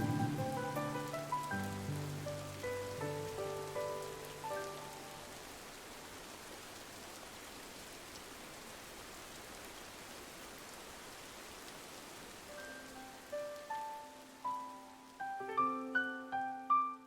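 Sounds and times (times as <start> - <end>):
rain pattering on window: 0.0 - 15.9.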